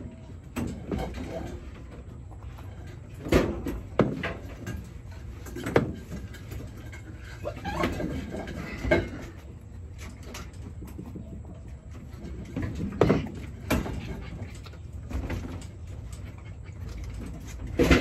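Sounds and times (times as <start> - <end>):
scraping and rustling: 0.7 - 18.0.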